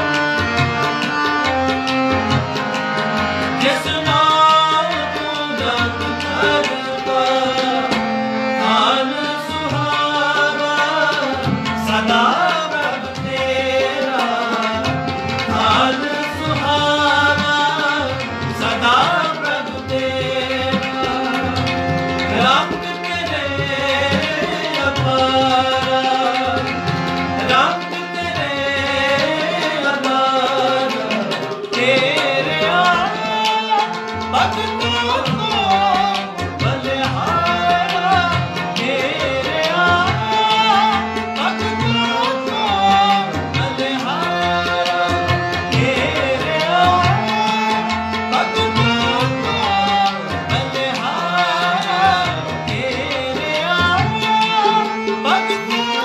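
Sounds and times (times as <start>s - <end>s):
hand drum accompaniment: 0.0s - 56.0s
harmonium melody: 0.0s - 56.0s.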